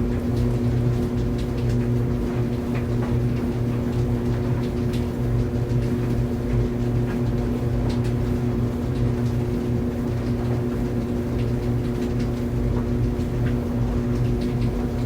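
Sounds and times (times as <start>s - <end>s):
clothes dryer humming: 0.0s - 15.0s.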